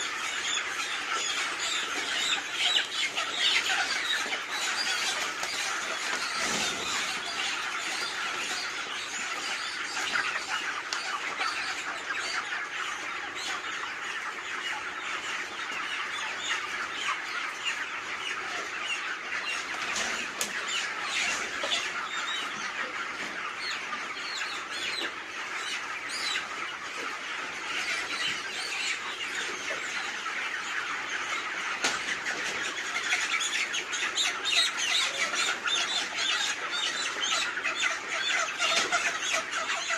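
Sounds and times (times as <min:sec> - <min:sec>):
chickens clucking and squawking: 0:00.0 - 0:39.9.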